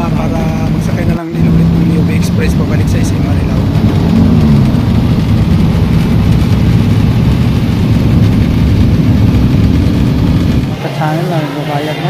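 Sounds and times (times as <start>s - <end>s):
vehicle engine and road rumble: 0.0s - 11.1s.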